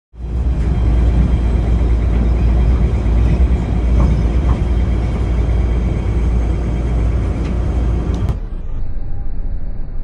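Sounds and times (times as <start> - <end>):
train wheels rumbling on rails: 0.2 - 8.4.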